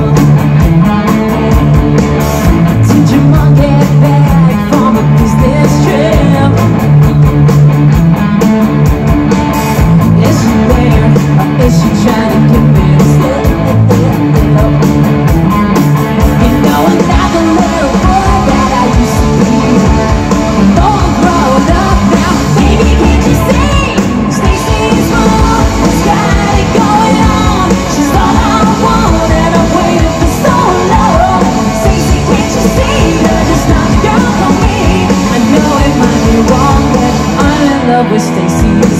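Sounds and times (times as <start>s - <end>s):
drums: 0.0s - 38.9s
electric guitars: 0.0s - 38.9s
woman singing into microphone: 2.8s - 6.9s, 10.2s - 14.9s, 16.4s - 38.9s.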